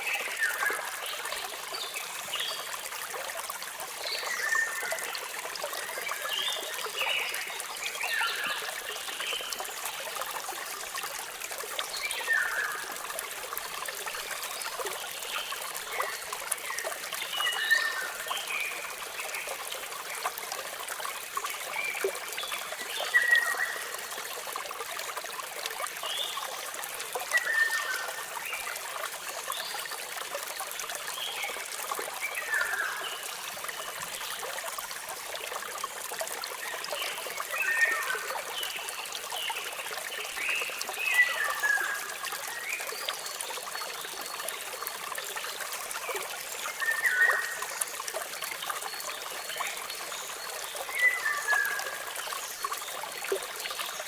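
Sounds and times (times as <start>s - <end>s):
waterfall: 0.0s - 54.0s.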